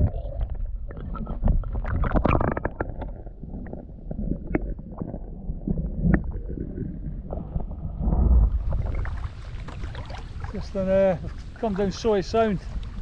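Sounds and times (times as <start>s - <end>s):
low water surge: 0.0s - 13.0s
underwater sloshing and gurgling: 0.0s - 13.0s.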